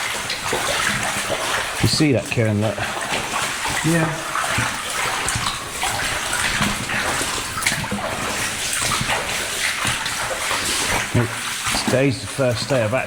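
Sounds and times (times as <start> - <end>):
water splashing around wading legs: 0.0 - 13.0.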